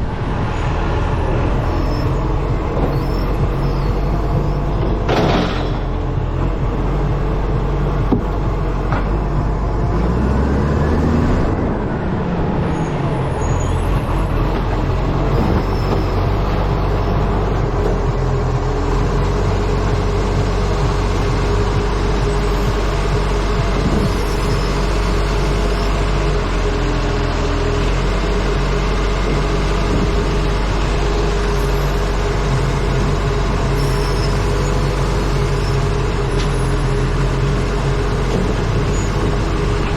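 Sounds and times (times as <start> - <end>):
truck diesel engine running: 0.0 - 39.9
wind noise on microphone: 0.0 - 39.9.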